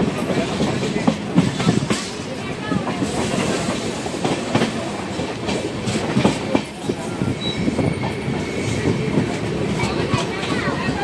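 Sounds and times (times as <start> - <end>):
train coach rumbling: 0.0 - 11.0.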